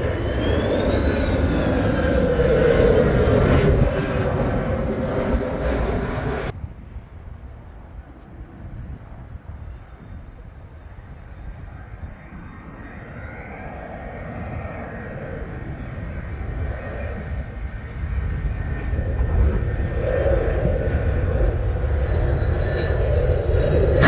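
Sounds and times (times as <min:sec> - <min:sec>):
jet engine whine and rush: 0:00.0 - 0:24.0.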